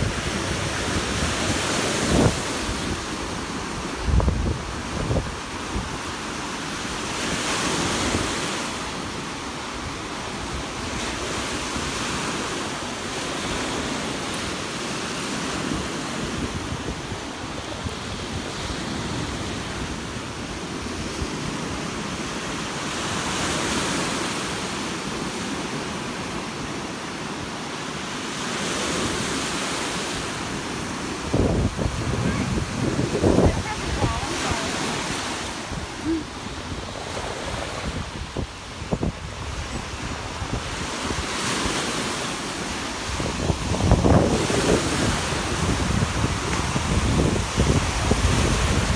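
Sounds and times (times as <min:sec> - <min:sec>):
waves breaking on a beach: 0:00.0 - 0:48.9.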